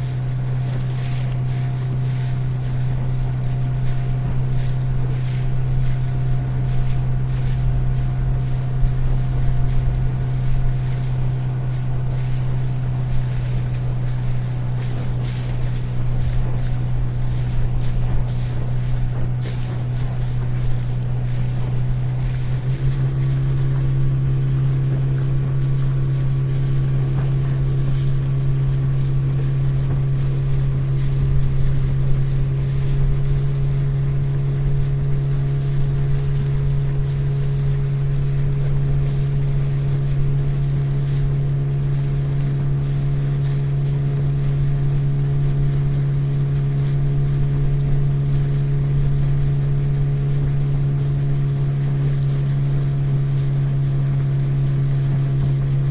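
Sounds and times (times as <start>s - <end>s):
motorboat engine running: 0.0s - 55.9s
water rushing against hull: 0.0s - 55.9s
wind: 0.0s - 55.9s.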